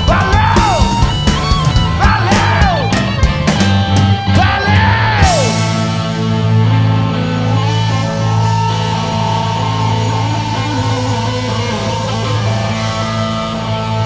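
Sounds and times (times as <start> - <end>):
live rock band playing: 0.0 - 14.0
sliding high guitar notes: 0.0 - 14.0.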